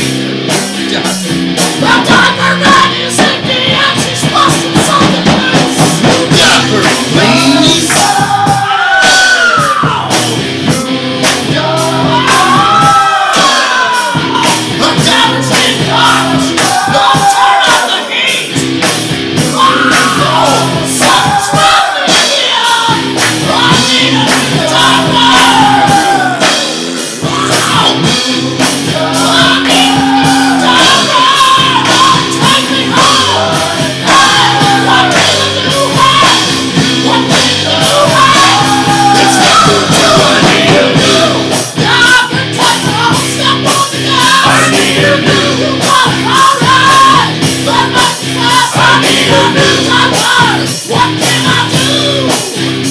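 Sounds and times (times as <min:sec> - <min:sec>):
hard rock song with drums: 0:00.0 - 0:52.9
sung and shouted vocals: 0:00.8 - 0:52.9.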